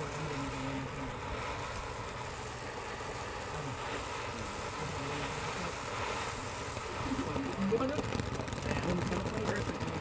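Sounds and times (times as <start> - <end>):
firework fountain hissing: 0.0 - 10.0.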